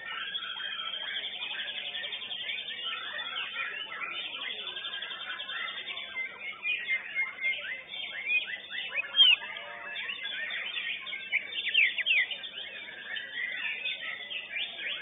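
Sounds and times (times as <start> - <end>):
songbird trilling and whistling: 0.0 - 15.0.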